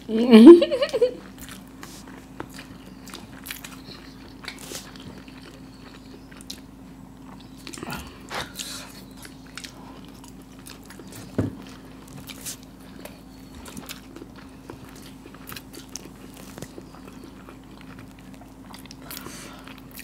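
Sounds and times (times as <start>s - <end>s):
faint steady hum: 0.0s - 20.0s
chewing and biting food: 1.1s - 20.0s.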